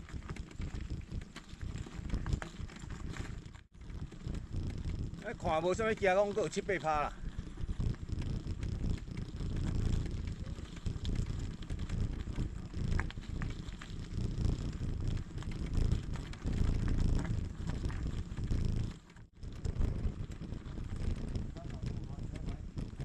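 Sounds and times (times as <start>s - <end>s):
bicycle tyres rolling on rough road: 0.0s - 23.0s
small clicks: 0.0s - 23.0s
wind on microphone: 0.0s - 23.0s.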